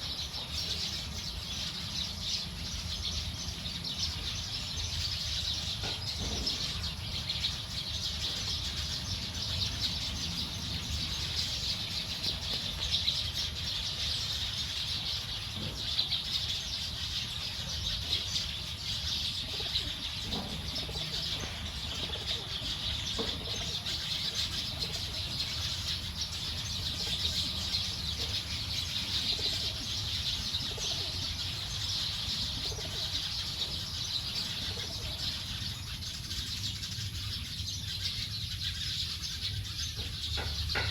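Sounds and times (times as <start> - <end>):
flock of birds chirping: 0.0 - 40.9.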